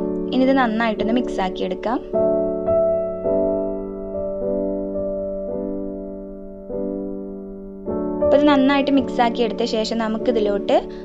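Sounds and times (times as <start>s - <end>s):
slow piano tune: 0.0s - 11.0s.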